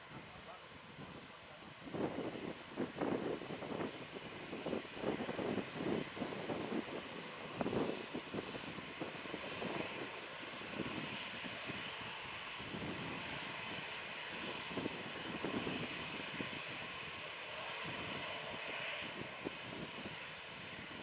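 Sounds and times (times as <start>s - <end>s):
jet engine whine and hiss: 0.0s - 21.0s.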